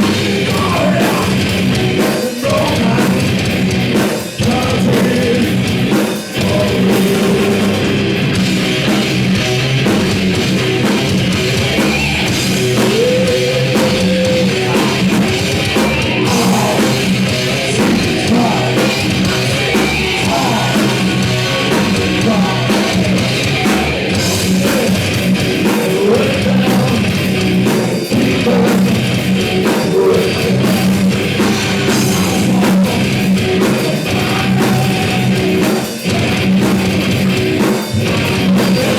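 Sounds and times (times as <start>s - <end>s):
heavy metal band playing live: 0.0s - 38.9s.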